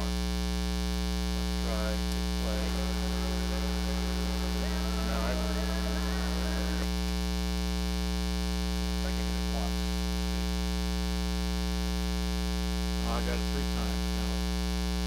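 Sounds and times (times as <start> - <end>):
buzzy mains hum: 0.0 - 15.0.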